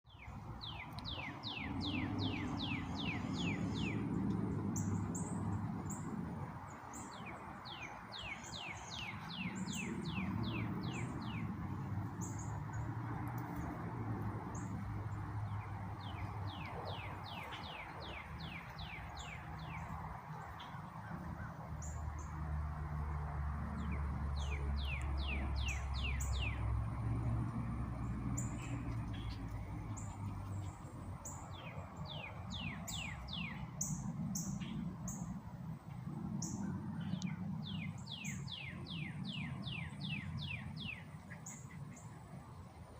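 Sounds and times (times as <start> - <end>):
birds chirping: 0.1 - 42.4
steady low rumble: 0.4 - 38.2.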